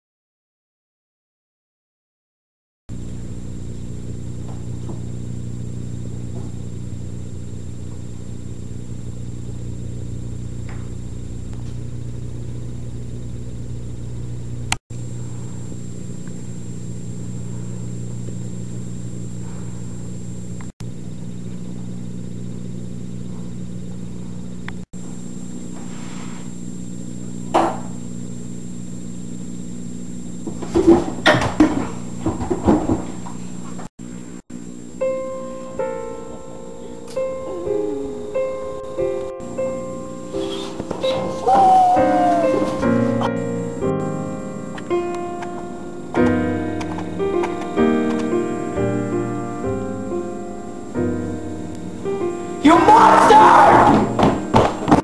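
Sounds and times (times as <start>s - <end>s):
steady low hum: 2.9s - 52.7s.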